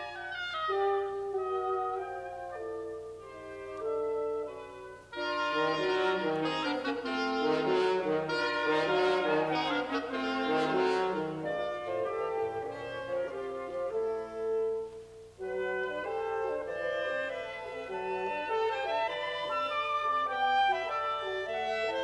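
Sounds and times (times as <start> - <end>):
low bassoon notes: 0.0 - 22.0
woodwind quintet playing: 0.0 - 22.0.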